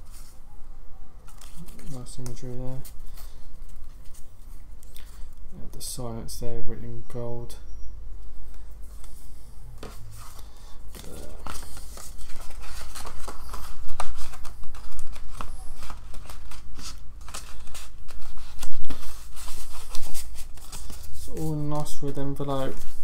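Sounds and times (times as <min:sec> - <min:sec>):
paper and card rustling: 0:01.2 - 0:05.3, 0:08.5 - 0:23.0.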